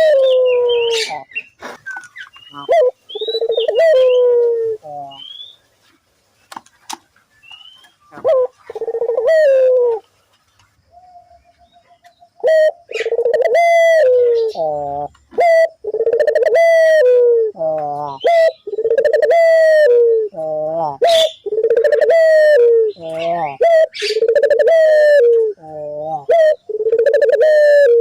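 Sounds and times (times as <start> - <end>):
dove cooing: 0.0 - 5.4, 8.0 - 10.0, 10.9 - 28.0.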